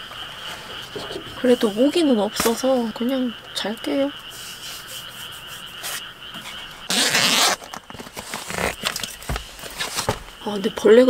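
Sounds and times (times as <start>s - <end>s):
frogs calling: 0.0s - 11.0s
insects chirping: 0.0s - 11.0s.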